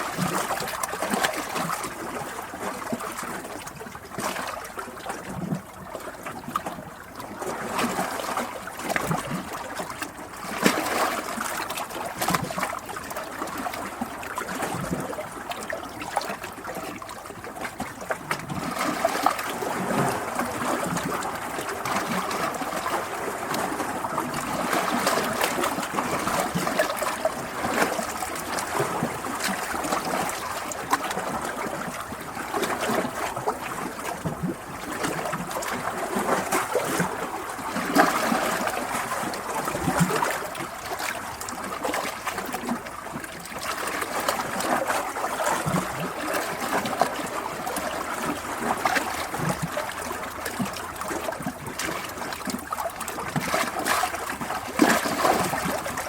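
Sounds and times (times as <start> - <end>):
small splashes and gurgles: 0.0 - 56.0
stream water flowing: 0.0 - 56.0.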